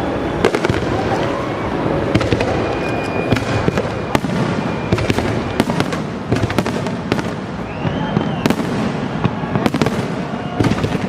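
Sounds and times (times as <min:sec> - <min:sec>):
continuous rumbling din: 0:00.0 - 0:11.0
fireworks bangs and cracks: 0:00.0 - 0:11.0.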